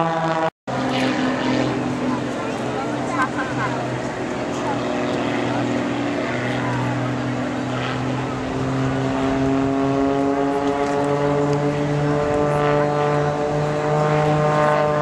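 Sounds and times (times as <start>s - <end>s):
propeller plane droning overhead: 0.0s - 15.0s.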